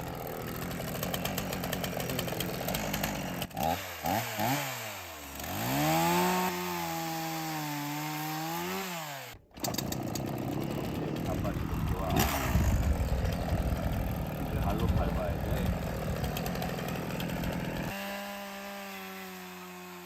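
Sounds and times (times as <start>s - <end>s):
chainsaw cutting and revving: 0.0s - 20.0s.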